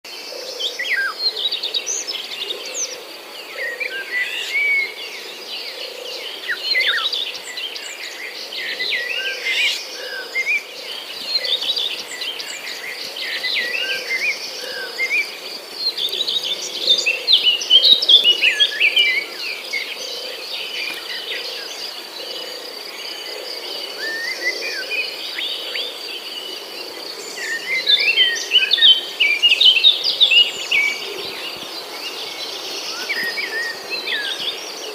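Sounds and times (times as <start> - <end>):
small birds chirping: 0.4 - 34.9.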